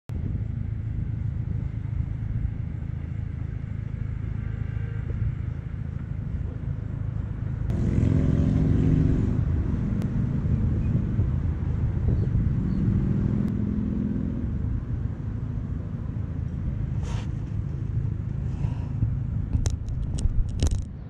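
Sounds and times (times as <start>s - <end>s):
low outdoor rumble: 0.1s - 21.0s
vehicle engine: 0.1s - 21.0s.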